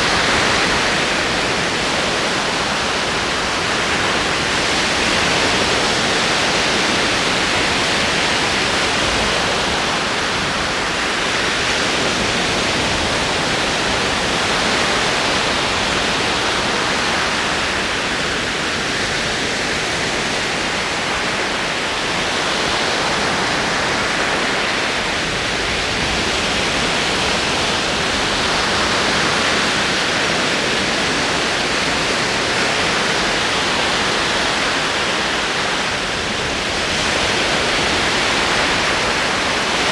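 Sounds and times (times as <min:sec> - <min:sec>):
ocean waves rolling in: 0:00.0 - 0:39.9.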